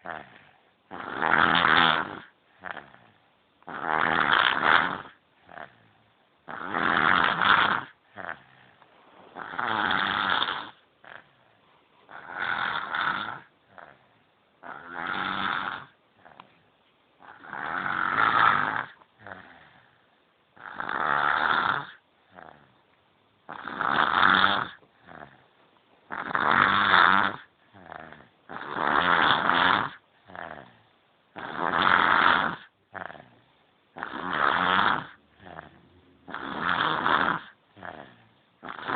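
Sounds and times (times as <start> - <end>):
baby snoring: 0.0 - 16.5, 17.2 - 20.0, 20.6 - 22.8, 23.4 - 38.9.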